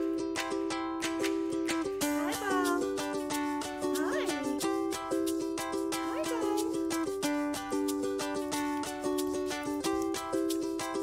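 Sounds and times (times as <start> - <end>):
upbeat ukulele music: 0.0 - 11.0.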